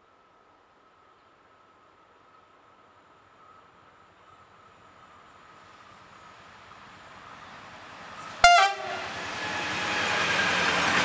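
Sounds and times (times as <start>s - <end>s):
distant electric train approaching: 0.0s - 11.0s.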